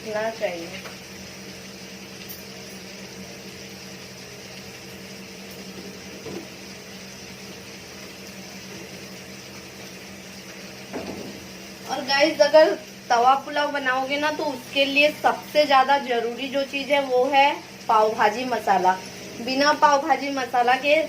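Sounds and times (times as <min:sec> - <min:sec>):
low electrical hum: 0:00.0 - 0:21.0
tomatoes sizzling in a pan: 0:00.0 - 0:21.0.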